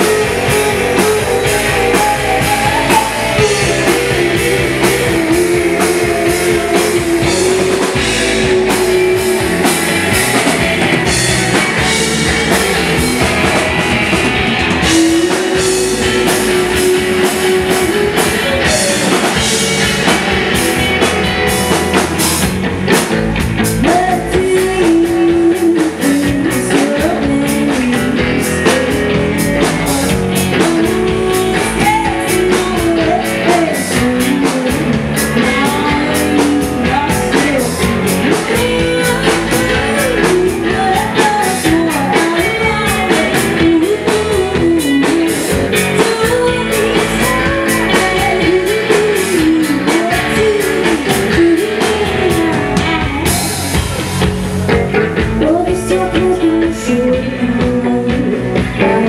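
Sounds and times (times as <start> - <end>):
lead vocals singing: 0.0 - 22.4, 23.7 - 54.0, 55.2 - 59.0
drum kit: 0.0 - 59.0
electric guitars: 0.0 - 59.0.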